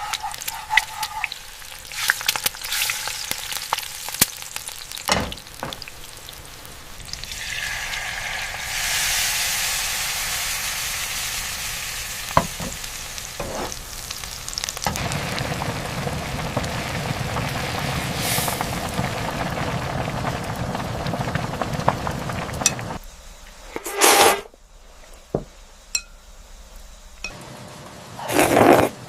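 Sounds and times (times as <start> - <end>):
food sizzling in a pan: 0.0 - 27.3.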